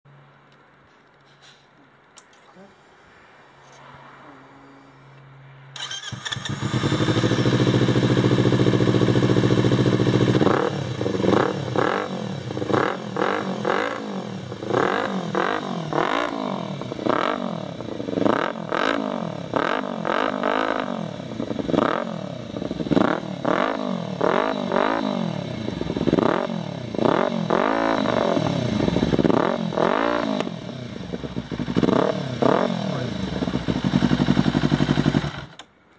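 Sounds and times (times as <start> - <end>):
motorcycle engine idling and revving: 5.8 - 35.7.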